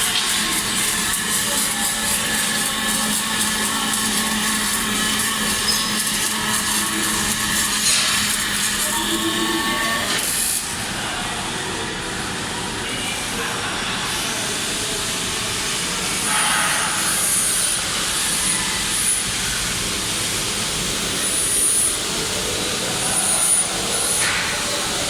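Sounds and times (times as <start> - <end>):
industrial machinery noise: 0.0 - 25.0.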